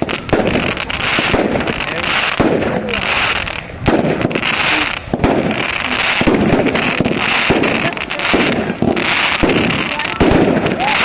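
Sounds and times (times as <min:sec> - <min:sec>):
fireworks crackling: 0:00.0 - 0:11.0
fireworks cracks and pops: 0:00.0 - 0:11.0.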